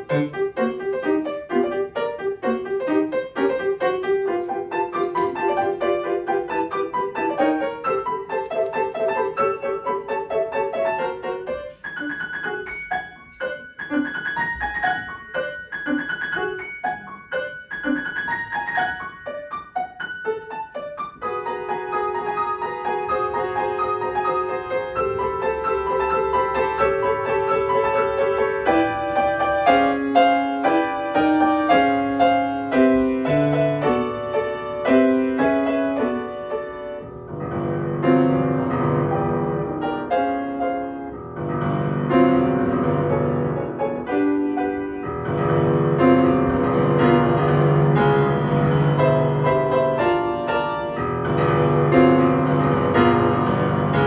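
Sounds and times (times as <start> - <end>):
piano playing: 0.0 - 54.0.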